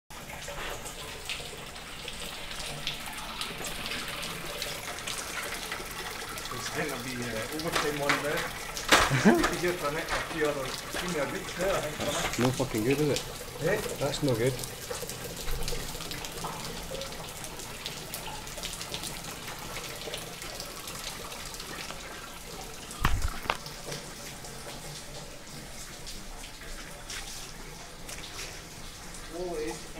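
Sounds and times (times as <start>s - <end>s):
water pouring through ceiling: 0.1s - 29.9s
water splashes: 0.1s - 29.9s.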